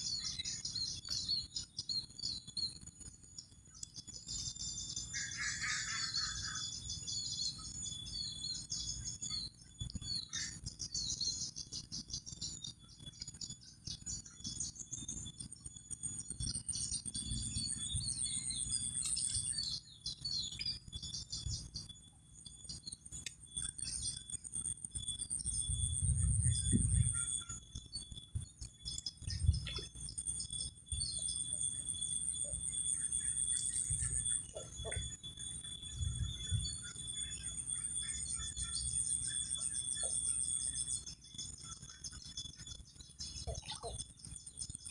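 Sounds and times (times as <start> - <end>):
bird chirps: 0.0 - 44.9
insects chirring: 0.0 - 44.9.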